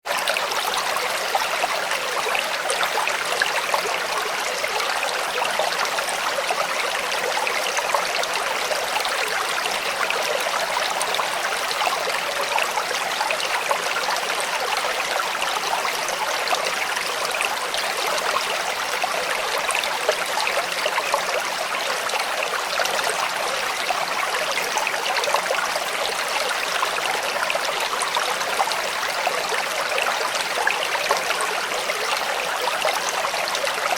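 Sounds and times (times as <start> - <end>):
creek water babbling over rocks: 0.0 - 33.9.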